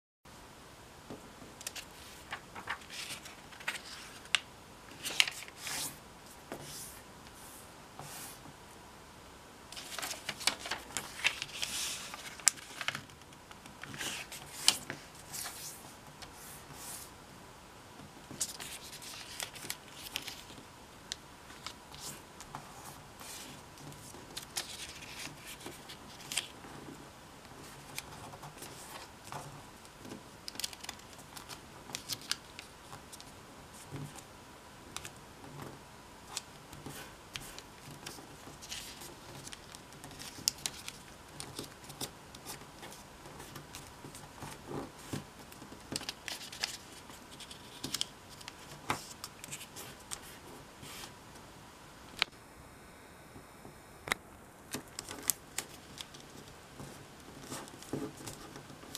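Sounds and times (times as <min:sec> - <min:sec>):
paper rustling while folded: 0:01.6 - 0:08.4, 0:09.7 - 0:17.1, 0:18.4 - 0:20.6, 0:21.5 - 0:34.3, 0:36.2 - 0:51.2, 0:54.7 - 0:58.9.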